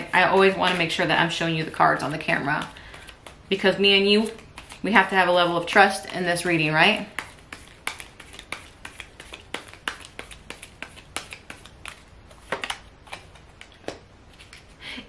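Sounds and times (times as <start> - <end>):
cards shuffling: 0.0 - 5.1, 6.0 - 14.8.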